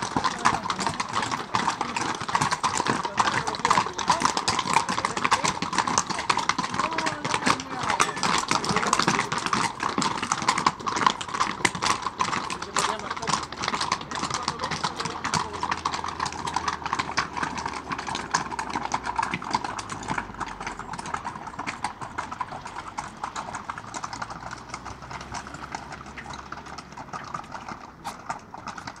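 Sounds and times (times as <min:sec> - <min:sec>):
horse hooves on cobblestones: 0:00.0 - 0:29.0.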